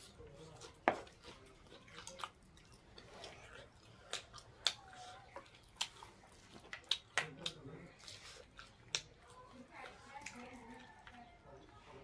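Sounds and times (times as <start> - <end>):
person chewing chicken: 0.0 - 11.2.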